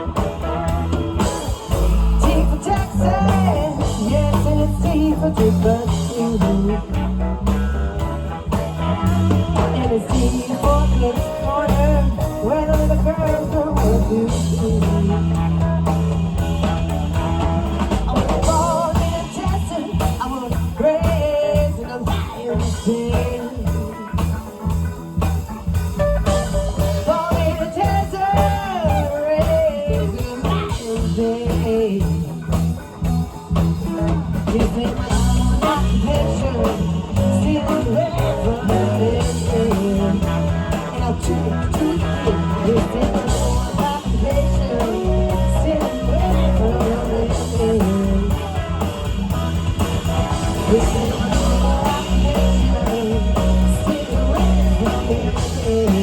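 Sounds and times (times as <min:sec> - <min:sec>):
blues-rock band playing: 0:00.0 - 0:56.0
lead guitar line bending: 0:00.0 - 0:56.0.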